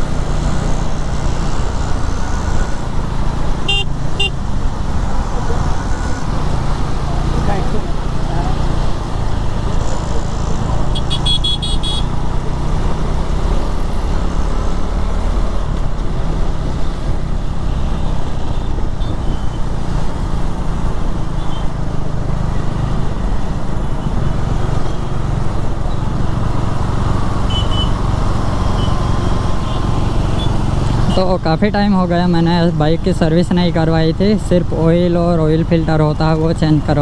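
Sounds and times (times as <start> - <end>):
road and wind noise: 0.0 - 37.0.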